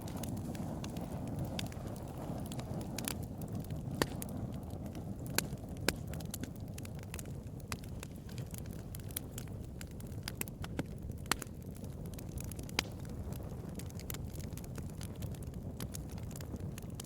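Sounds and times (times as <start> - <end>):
burning wood popping and snapping: 0.0 - 17.0
low rumble of flames: 0.0 - 17.0.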